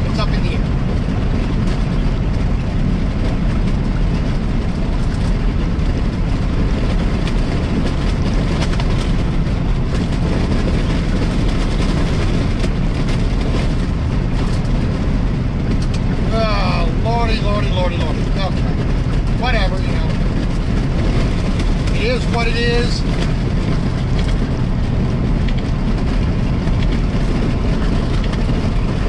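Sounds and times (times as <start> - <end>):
truck engine drone: 0.0 - 29.0.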